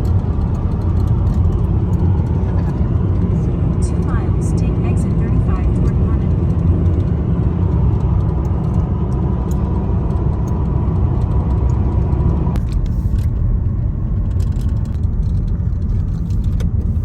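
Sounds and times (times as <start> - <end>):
motor vehicle driving rumble: 0.0 - 17.0.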